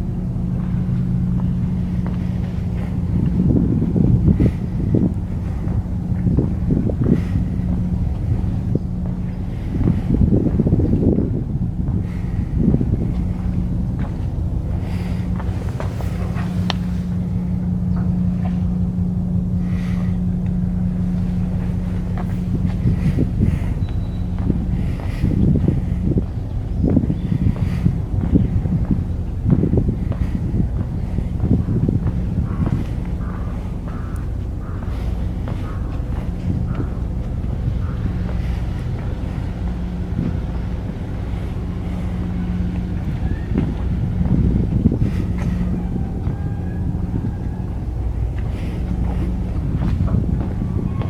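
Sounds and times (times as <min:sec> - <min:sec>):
engine running: 0:00.0 - 0:51.0.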